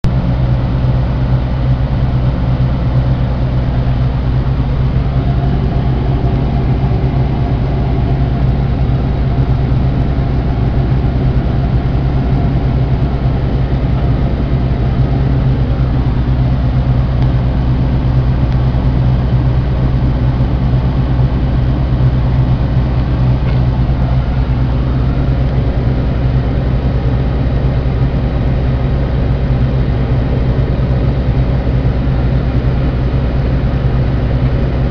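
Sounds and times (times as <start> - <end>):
combine harvester droning: 0.0 - 34.9.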